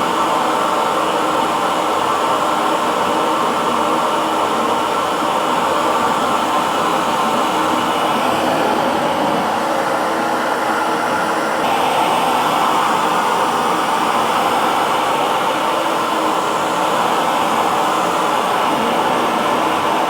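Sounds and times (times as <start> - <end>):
hair dryer running: 0.0 - 20.0.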